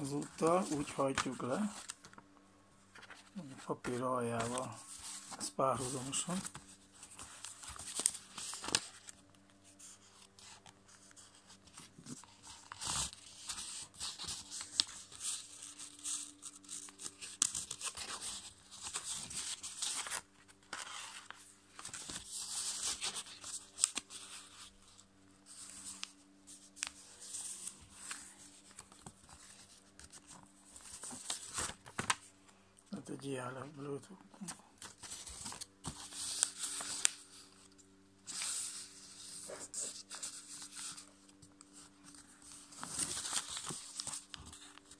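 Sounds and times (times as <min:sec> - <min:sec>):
paper rustling and crinkling: 0:00.0 - 0:32.3, 0:34.4 - 0:44.9
faint steady hum: 0:00.0 - 0:44.9.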